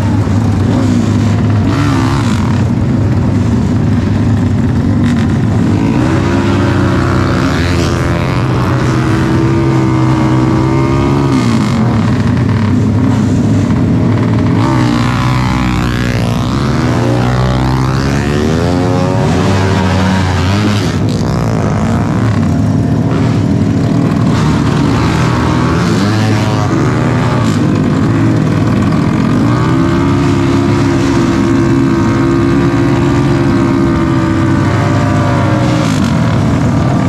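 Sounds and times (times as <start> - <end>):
racing motorcycle engines revving: 0.0 - 37.0.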